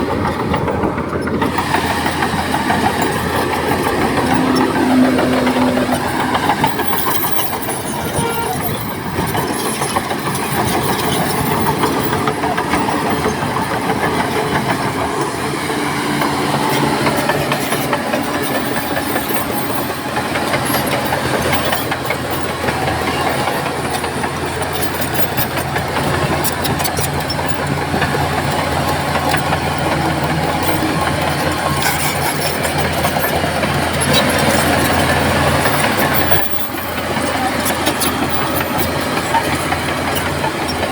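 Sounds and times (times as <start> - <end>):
clanking and rattling: 0.0 - 40.9
heavy diesel engine running: 0.0 - 40.9.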